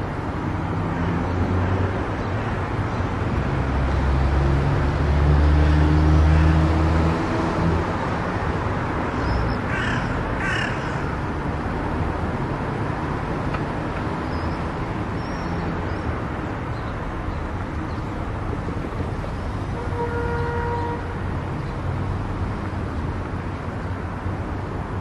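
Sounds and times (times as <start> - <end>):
car road and wind noise: 0.0 - 25.0.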